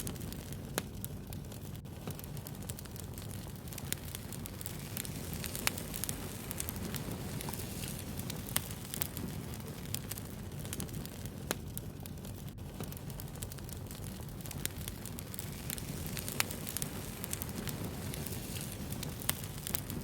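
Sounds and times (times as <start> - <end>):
sharp fire pops: 0.0 - 20.0
wood fire burning: 0.0 - 20.0.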